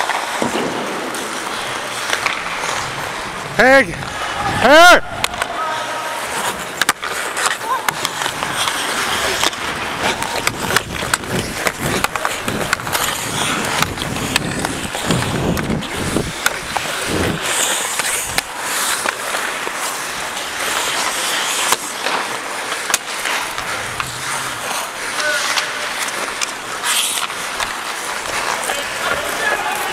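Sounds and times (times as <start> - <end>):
sticks and puck clicking: 0.0 - 3.4, 5.2 - 5.6, 6.2 - 29.9
skate blades scraping ice: 0.0 - 29.9.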